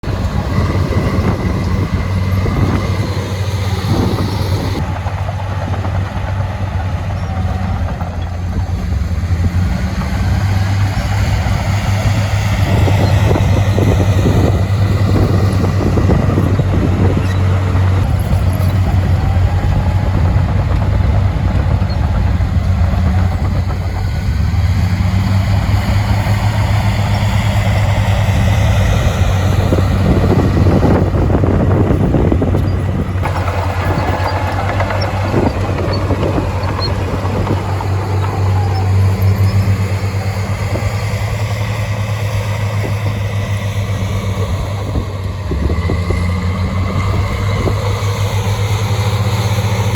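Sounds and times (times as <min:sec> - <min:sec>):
diesel machinery engine drone: 0:00.0 - 0:49.9.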